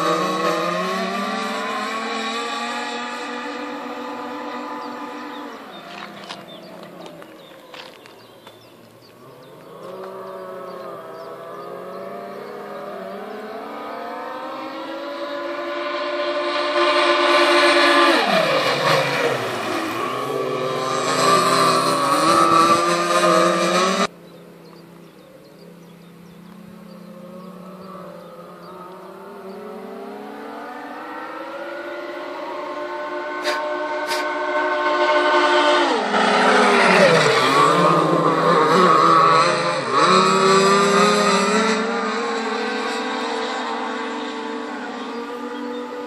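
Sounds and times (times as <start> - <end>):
high-revving engine passing by: 0.0 - 46.0.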